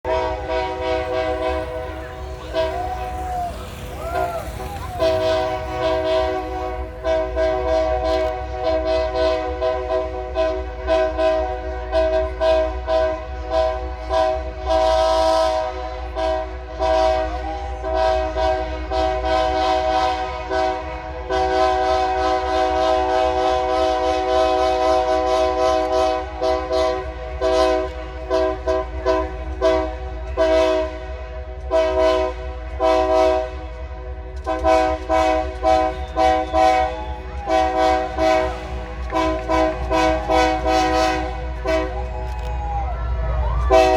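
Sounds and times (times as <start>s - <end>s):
locomotive air horn: 0.0s - 43.9s.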